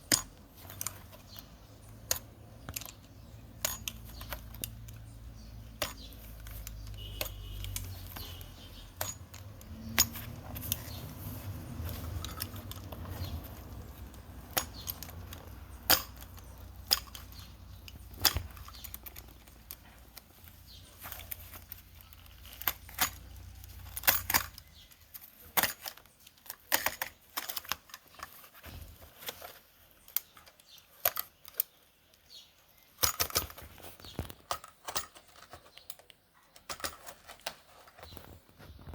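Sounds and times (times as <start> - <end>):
hand tools clicking and clinking: 0.0 - 38.3.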